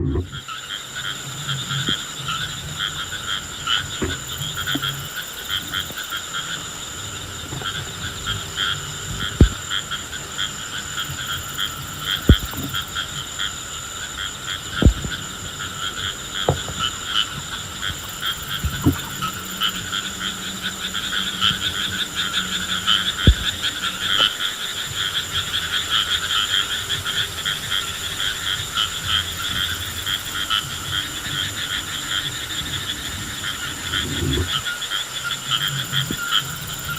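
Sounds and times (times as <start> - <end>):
frogs croaking: 0.0 - 36.9.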